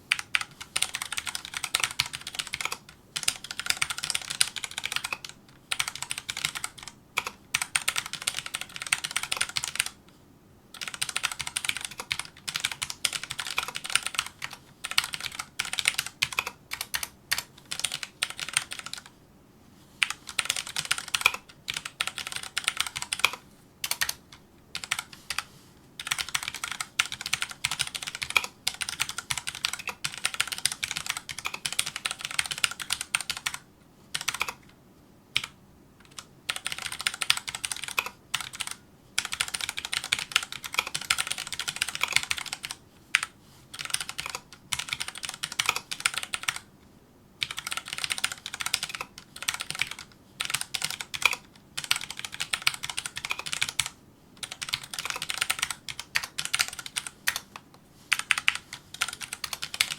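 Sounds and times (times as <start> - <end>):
mechanical keyboard typing: 0.1 - 10.0, 10.7 - 19.1, 20.0 - 34.8, 35.4 - 46.7, 47.4 - 59.9.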